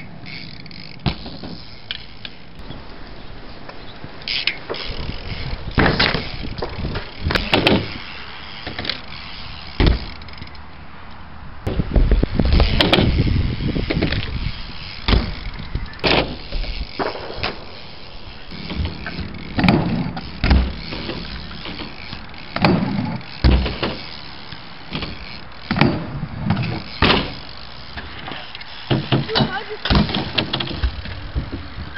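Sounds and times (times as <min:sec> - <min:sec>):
bike tyres rolling on concrete: 0:00.0 - 0:31.9
bike landing thuds and clatters: 0:00.8 - 0:02.2, 0:04.6 - 0:10.2, 0:12.5 - 0:31.9.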